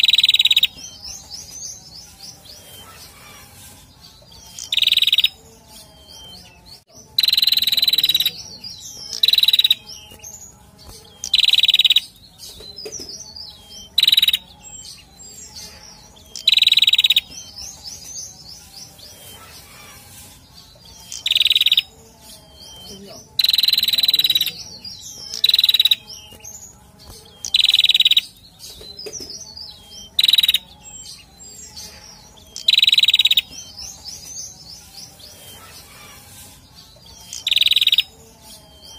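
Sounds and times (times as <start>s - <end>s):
soft high chirps: 0.0s - 12.3s, 13.2s - 28.5s, 29.4s - 38.9s
songbird singing: 0.0s - 38.9s.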